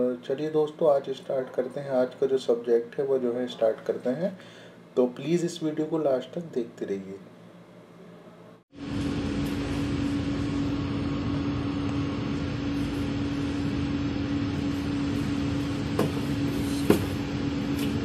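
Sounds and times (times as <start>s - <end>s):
kitchen fans humming: 0.0s - 18.0s.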